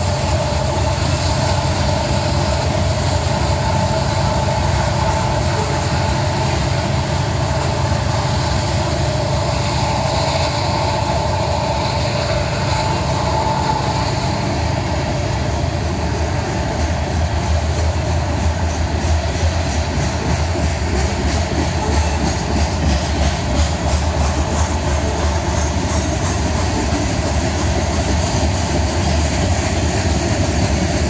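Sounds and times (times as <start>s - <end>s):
freight train wheels on rails: 0.0s - 31.0s.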